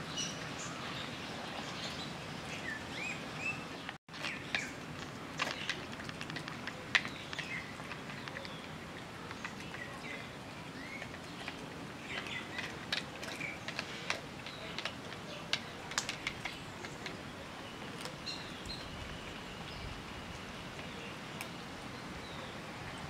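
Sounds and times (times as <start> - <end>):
outdoor background hiss: 0.0 - 23.0
small birds chirping: 0.0 - 23.0.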